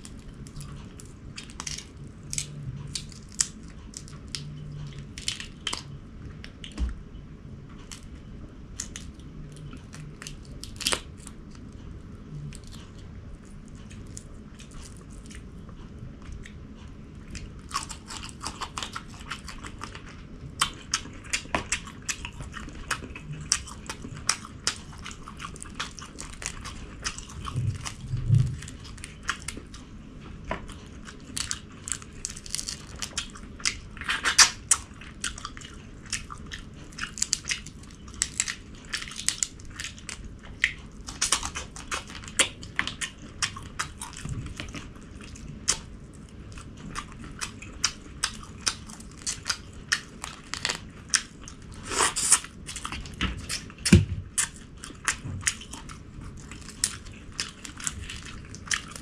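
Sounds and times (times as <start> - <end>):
person chewing and crunching food: 0.0 - 7.0, 7.7 - 59.0.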